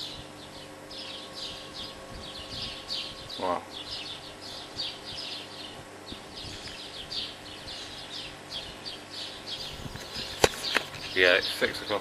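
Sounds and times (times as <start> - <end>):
birds chirping: 0.0 - 12.0
faint steady hum: 0.0 - 12.0.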